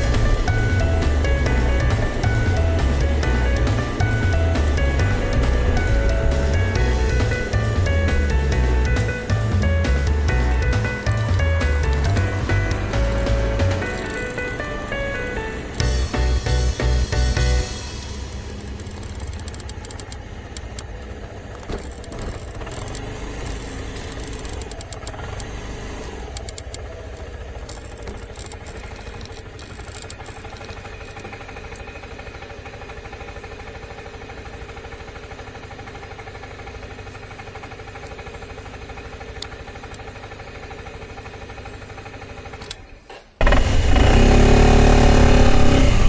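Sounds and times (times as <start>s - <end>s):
scooter engine running: 0.0s - 46.0s.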